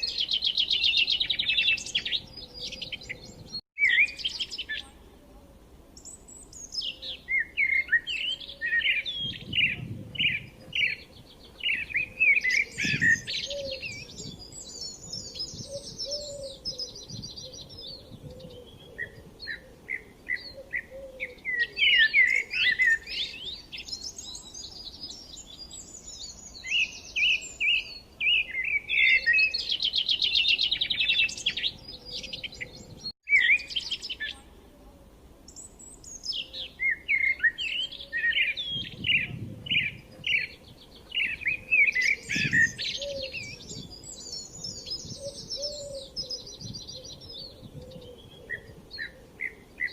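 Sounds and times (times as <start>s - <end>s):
songbirds chirping and singing: 0.0s - 34.6s, 35.4s - 49.9s.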